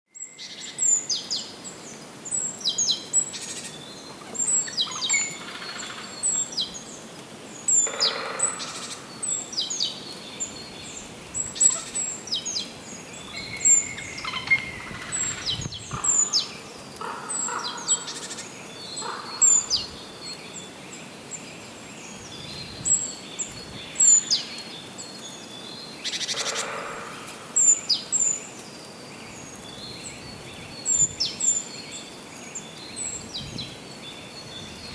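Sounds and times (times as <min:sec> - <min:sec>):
songbirds chirping: 0:00.2 - 0:34.9
steady background hiss: 0:00.2 - 0:34.9.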